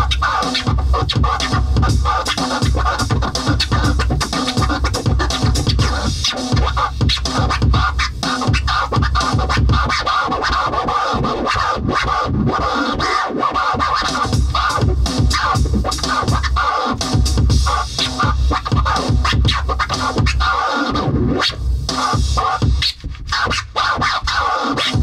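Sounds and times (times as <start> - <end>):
dj scratch sounds: 0.0 - 25.0
electronic music with heavy beat: 0.0 - 25.0.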